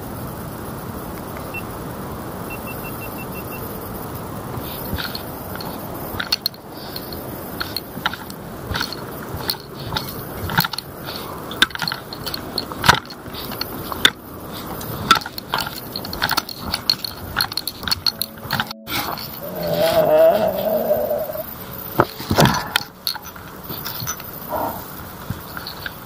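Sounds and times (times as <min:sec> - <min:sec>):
carried gear rattling: 0:04.6 - 0:26.0.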